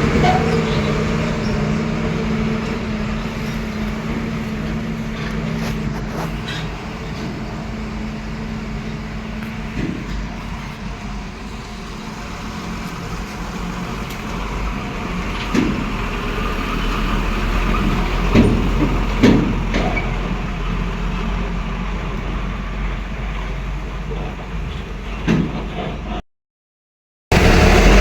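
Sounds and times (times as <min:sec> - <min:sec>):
low engine rumble of traffic: 0:00.0 - 0:26.2, 0:27.3 - 0:28.0.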